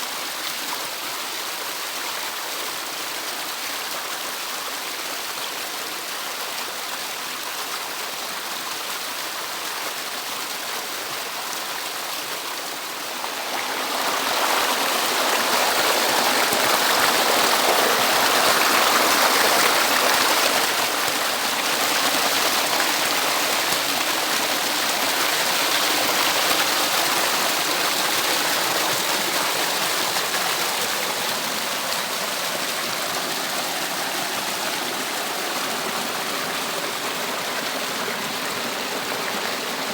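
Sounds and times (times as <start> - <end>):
water cascading over rocks: 0.0 - 39.9.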